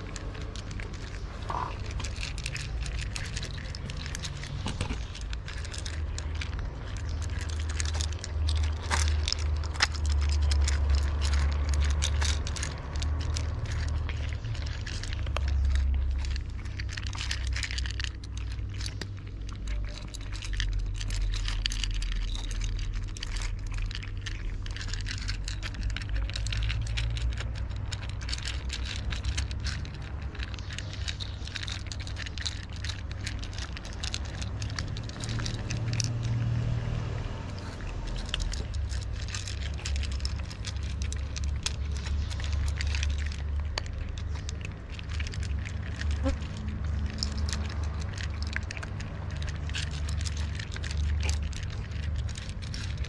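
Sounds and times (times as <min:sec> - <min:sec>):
cats crunching dry kibble: 0:00.0 - 0:53.0
steady low rumble: 0:00.0 - 0:53.0.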